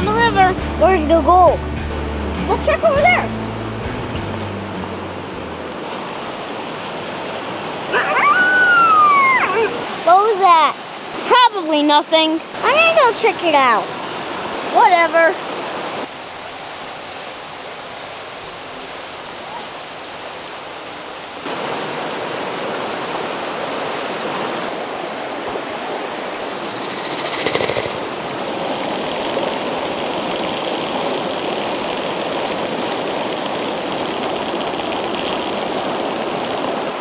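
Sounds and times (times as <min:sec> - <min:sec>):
river rushing over rocks: 0:05.2 - 0:37.0.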